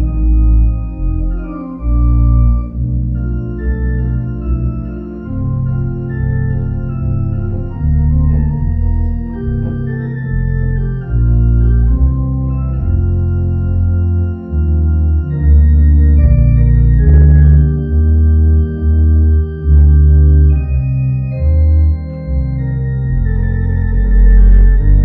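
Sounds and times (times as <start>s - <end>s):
church organ playing: 0.0s - 25.0s.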